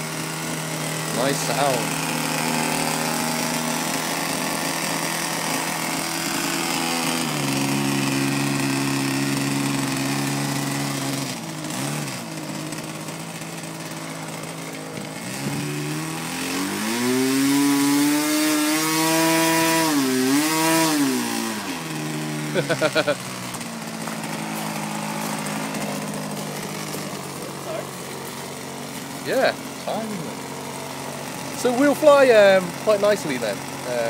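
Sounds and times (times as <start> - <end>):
model airplane engine revving: 0.0 - 34.0.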